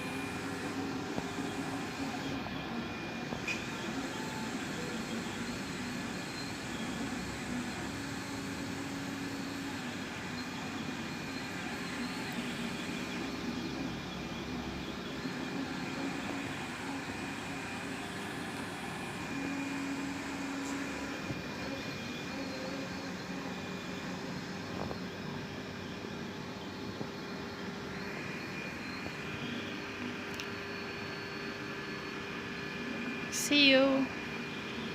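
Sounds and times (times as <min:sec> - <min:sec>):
cooling fans whirring: 0:00.0 - 0:34.9
stepper motor tones: 0:00.0 - 0:34.9.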